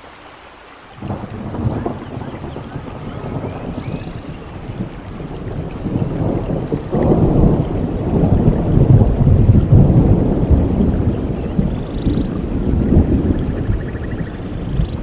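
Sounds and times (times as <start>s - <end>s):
steady rain: 0.0s - 15.0s
rolling thunder rumbling: 1.0s - 15.0s.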